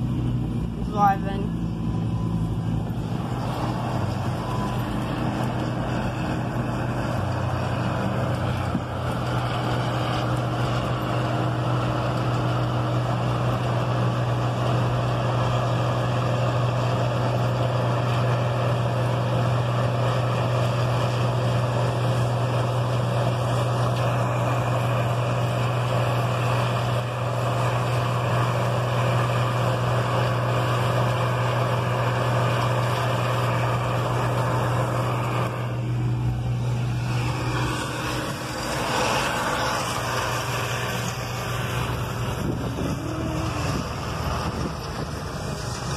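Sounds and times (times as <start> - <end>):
engine hum: 0.0 - 45.9
tyre rumble and road noise: 0.0 - 45.9.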